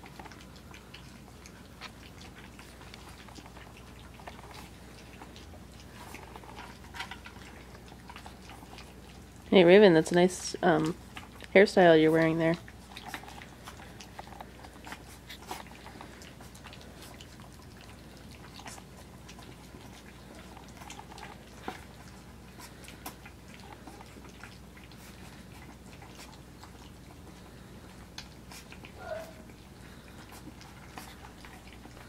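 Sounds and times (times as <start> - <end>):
puppies lapping and chewing: 0.0 - 32.0.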